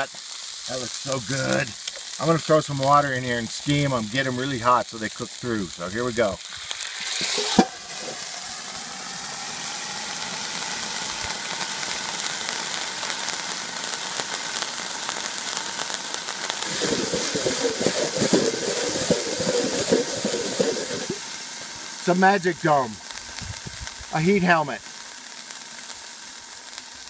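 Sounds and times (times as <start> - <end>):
crackling sizzle: 0.0 - 27.0
steaming hiss: 0.0 - 27.0.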